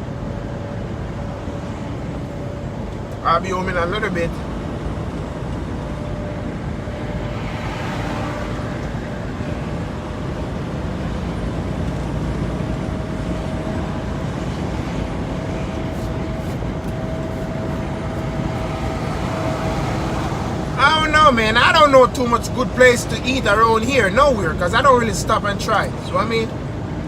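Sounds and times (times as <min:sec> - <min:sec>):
road noise: 0:00.0 - 0:27.0
truck engine rumble: 0:00.0 - 0:27.0.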